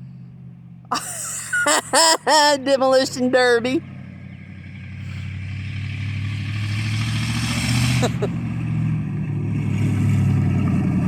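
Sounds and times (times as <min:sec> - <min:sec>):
loud unmuffled car engine: 0:00.0 - 0:11.0.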